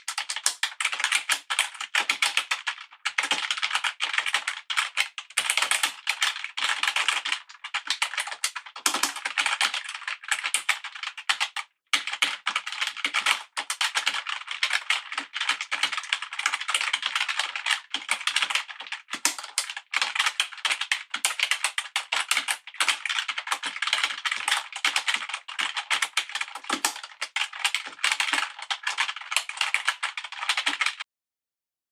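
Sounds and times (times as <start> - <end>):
fast typing on computer keyboard: 0.0 - 31.1.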